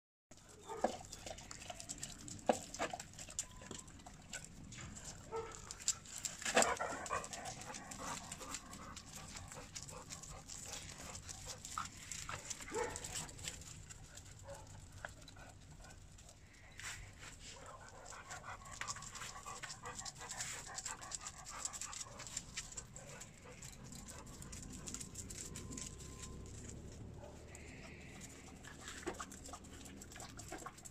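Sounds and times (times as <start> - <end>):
paws scuffling on paving stones: 0.3 - 30.9
dogs panting: 0.4 - 30.9.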